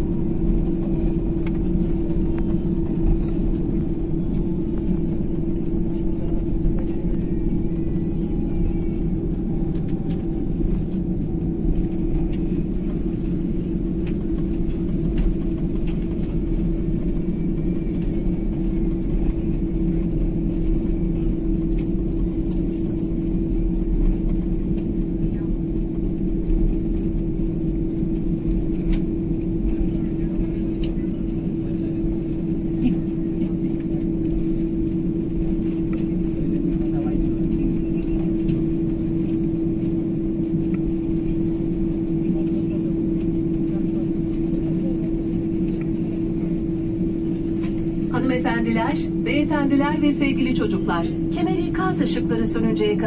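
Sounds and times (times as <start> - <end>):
constant low hum: 0.0 - 53.0
engines and wheels rumbling: 0.0 - 53.0.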